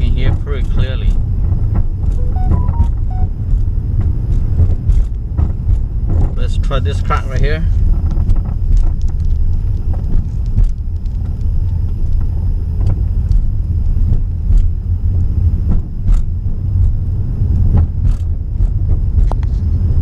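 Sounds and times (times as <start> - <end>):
road rumble inside car: 0.0 - 20.0.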